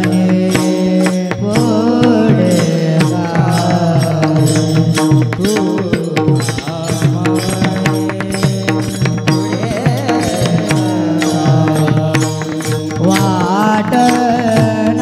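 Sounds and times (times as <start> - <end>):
men singing: 0.0 - 15.0.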